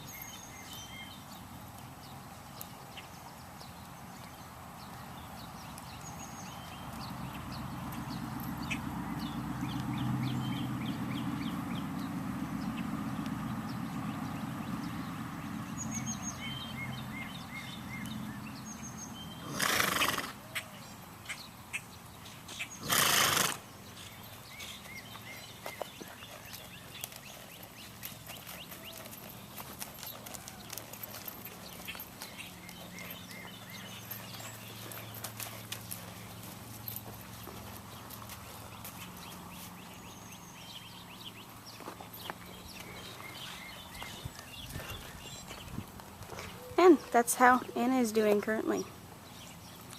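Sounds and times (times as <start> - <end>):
hoof steps: 0.0 - 49.9.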